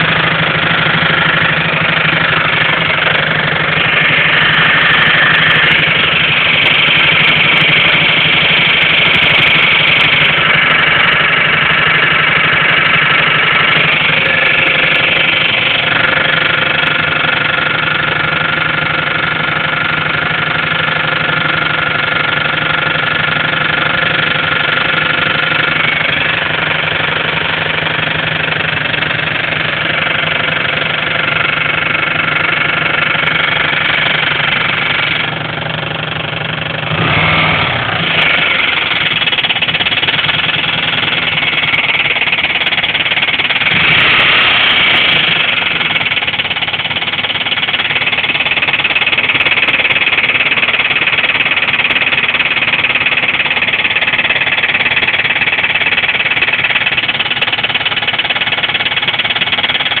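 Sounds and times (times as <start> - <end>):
engine running with rapid knock: 0.0 - 60.0.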